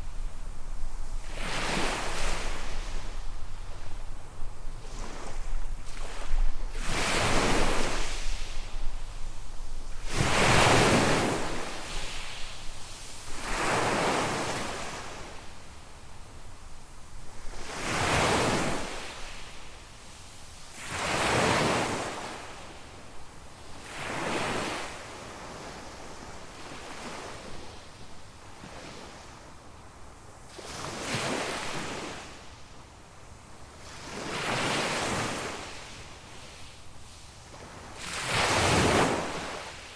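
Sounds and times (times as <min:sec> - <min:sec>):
small waves breaking on beach: 0:00.0 - 0:29.6, 0:30.4 - 0:32.5, 0:33.7 - 0:39.9.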